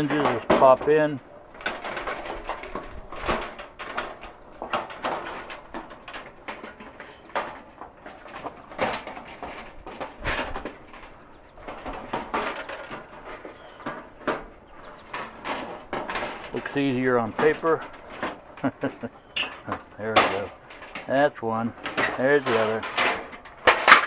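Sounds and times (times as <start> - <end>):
sheet metal clicking and rattling: 0.0 - 24.0.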